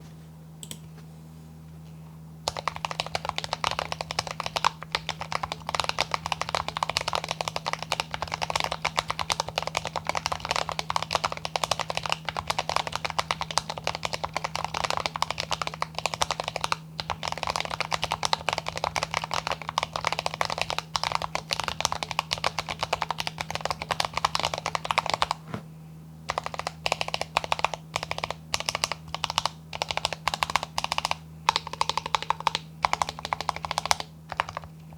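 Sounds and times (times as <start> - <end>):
typing on mechanical keyboard: 2.5 - 25.4, 26.3 - 34.8.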